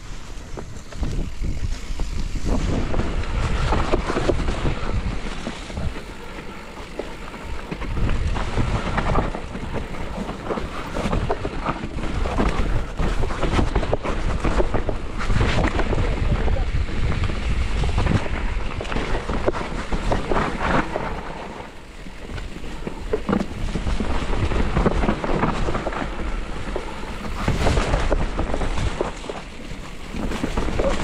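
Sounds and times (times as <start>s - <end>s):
wind rushing over microphone: 0.0s - 31.0s
bike knocks and rattles: 0.3s - 31.0s.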